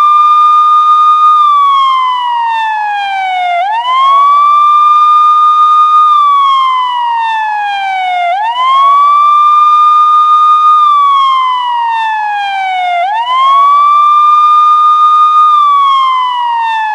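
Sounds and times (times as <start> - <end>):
police siren wailing: 0.0 - 16.9.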